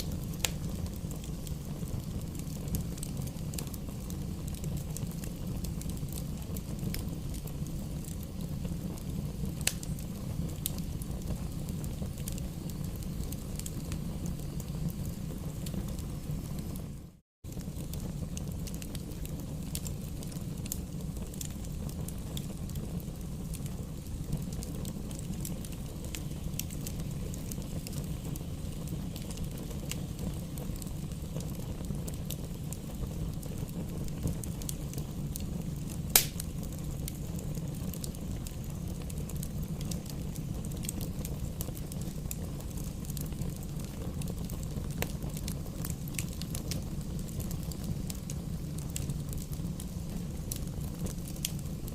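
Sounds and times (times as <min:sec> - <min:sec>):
fire popping: 0:00.0 - 0:51.9
wood fire crackling: 0:00.0 - 0:51.9.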